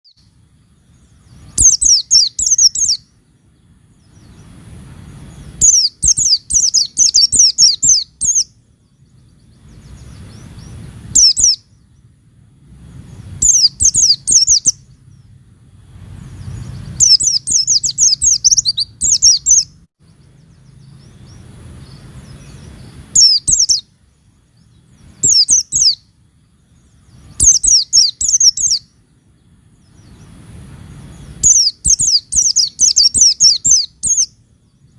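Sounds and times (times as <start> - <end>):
bird high chirping song: 0.0 - 34.9
faint low rumble: 0.2 - 34.9.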